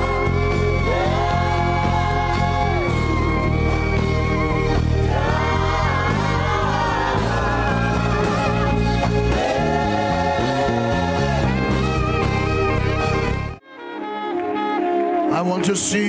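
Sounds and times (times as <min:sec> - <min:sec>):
voices singing gospel: 0:00.0 - 0:13.2
instrumental backing: 0:00.0 - 0:16.0.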